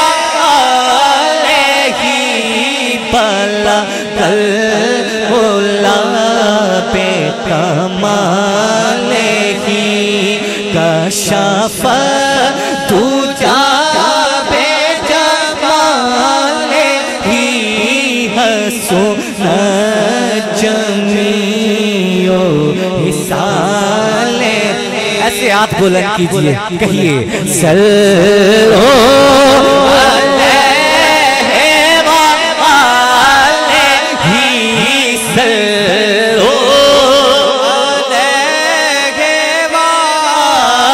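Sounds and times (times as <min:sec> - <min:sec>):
man singing into microphone: 0:00.0 - 0:40.9.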